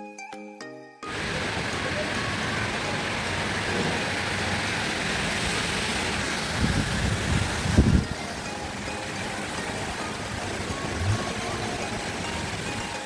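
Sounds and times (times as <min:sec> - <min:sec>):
heavy rain falling: 0:01.1 - 0:13.0
low rumbling: 0:01.1 - 0:13.0.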